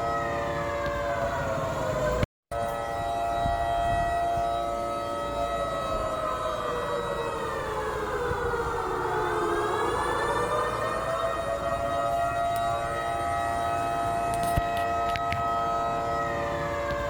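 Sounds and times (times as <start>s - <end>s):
air-raid siren wailing: 0.0s - 17.0s.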